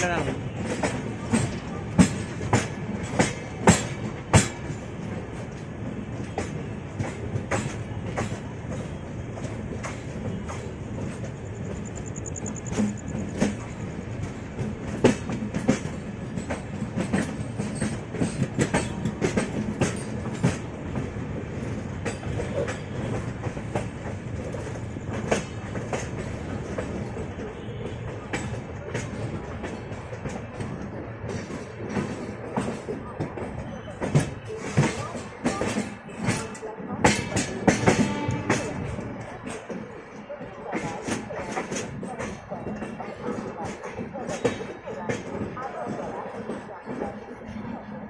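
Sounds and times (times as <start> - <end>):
wheels clacking over rail joints: 0.0 - 47.3
train coach rumbling: 0.0 - 48.0.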